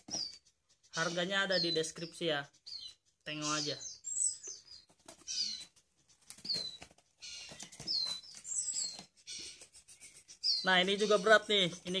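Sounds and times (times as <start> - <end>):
nestling birds chirping: 0.0 - 12.0.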